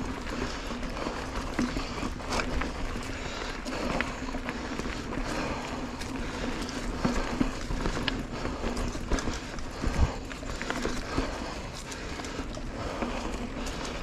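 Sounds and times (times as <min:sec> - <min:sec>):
bike clattering over bumps: 0:00.0 - 0:14.0
bike tyres on dirt: 0:00.0 - 0:14.0.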